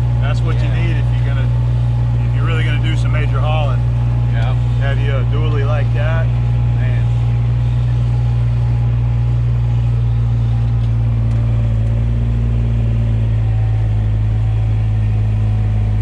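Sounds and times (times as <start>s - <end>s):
pickup truck engine idling: 0.0s - 16.0s.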